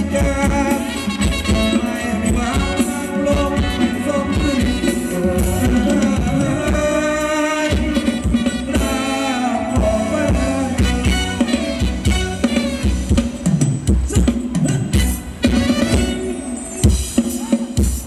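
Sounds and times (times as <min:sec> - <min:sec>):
live band music with drums: 0:00.0 - 0:18.0.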